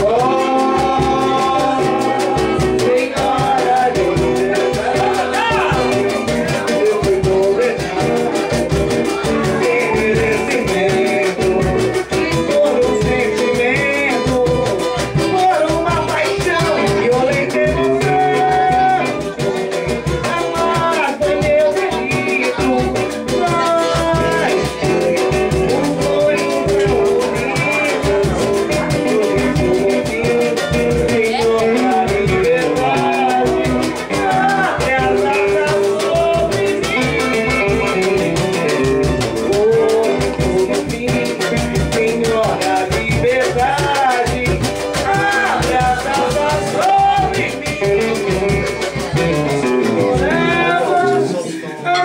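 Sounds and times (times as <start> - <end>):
fast percussive beat: 0.0 - 52.0
samba acoustic guitar: 0.0 - 52.0.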